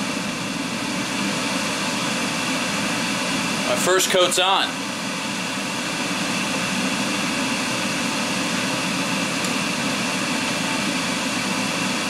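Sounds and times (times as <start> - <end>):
fan machine droning: 0.0 - 12.0.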